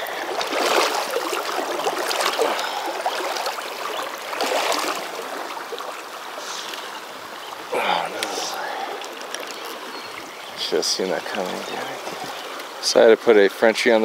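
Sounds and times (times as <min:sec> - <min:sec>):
river rushing and gurgling: 0:00.0 - 0:14.0.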